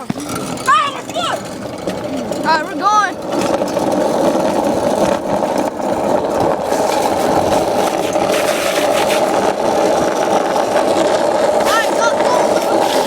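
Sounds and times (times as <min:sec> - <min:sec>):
go-kart rattling and scraping: 0:00.0 - 0:13.0.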